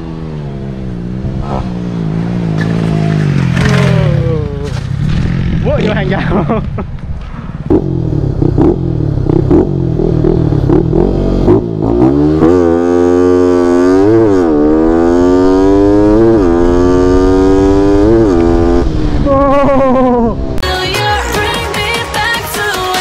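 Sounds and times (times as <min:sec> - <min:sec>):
motorcycle accelerating through gears: 0:00.0 - 0:06.0, 0:07.2 - 0:20.6
motorcycle engine revving: 0:00.0 - 0:20.6.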